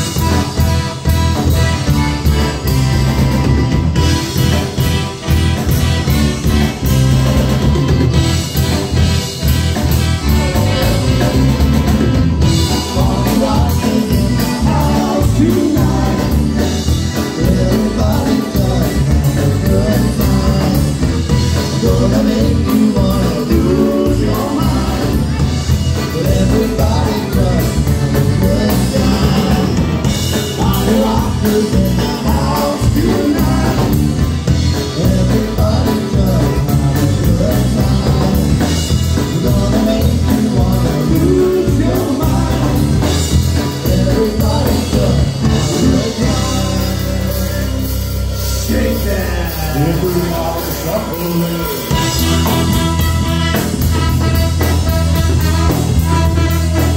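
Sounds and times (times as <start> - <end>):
polka band playing: 0.0 - 56.9
lead vocal singing: 10.2 - 56.9.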